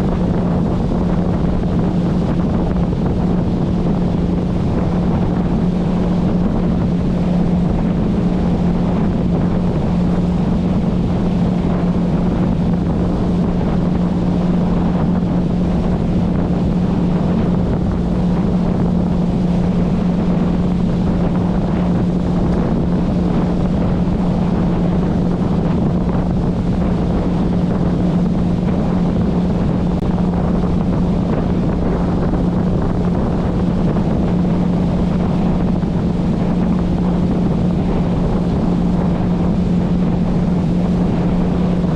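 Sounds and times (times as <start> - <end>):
motorboat engine humming: 0.0 - 41.9
wind buffeting microphone: 0.0 - 41.9.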